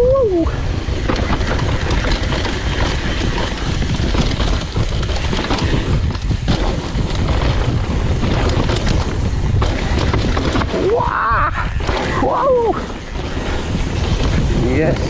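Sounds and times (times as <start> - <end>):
wind buffeting microphone: 0.0 - 15.0
tyres rolling on dirt: 0.4 - 15.0
bike knocks and rattles: 0.5 - 15.0.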